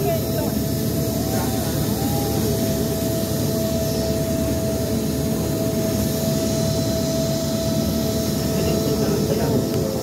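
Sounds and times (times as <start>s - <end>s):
motorboat engine drone: 0.0s - 10.0s
steady whine: 0.0s - 10.0s.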